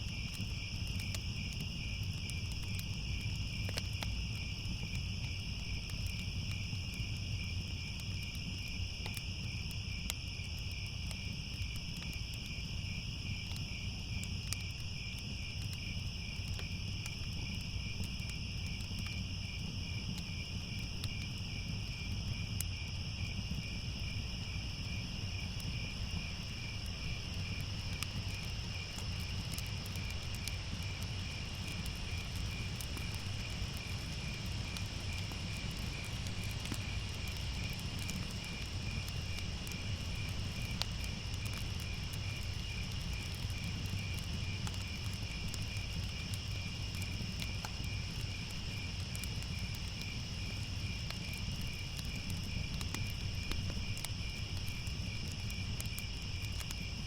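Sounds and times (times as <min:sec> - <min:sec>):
crickets chirping: 0:00.0 - 0:57.0
fire crackling: 0:00.0 - 0:57.0.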